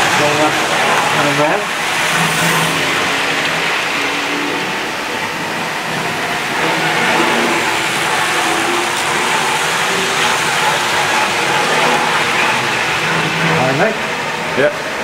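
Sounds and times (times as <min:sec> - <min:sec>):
model train motors whirring: 0:00.0 - 0:14.6
metal wheels on track: 0:00.0 - 0:15.0.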